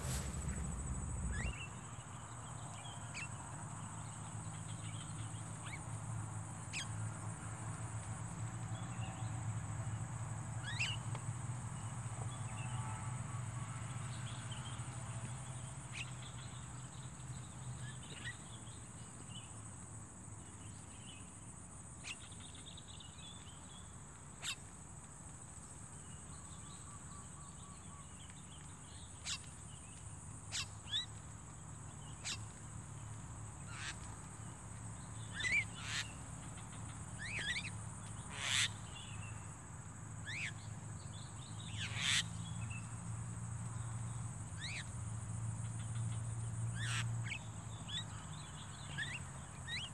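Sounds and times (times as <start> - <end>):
high insect drone: 0.0 - 49.9.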